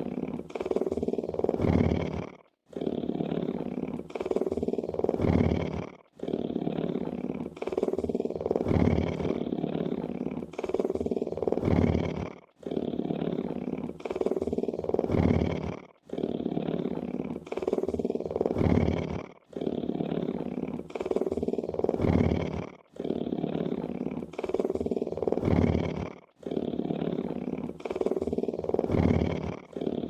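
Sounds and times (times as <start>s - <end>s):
big cat purring: 0.0s - 30.0s.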